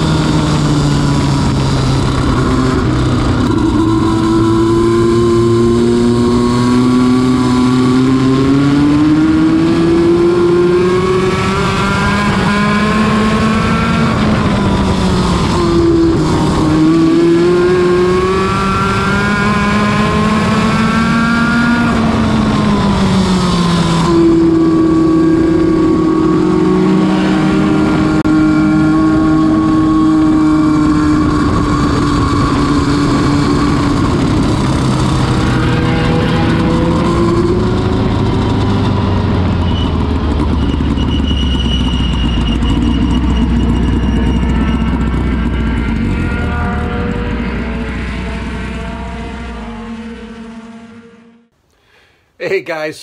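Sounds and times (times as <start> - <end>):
race car engine at speed: 0.0 - 51.6.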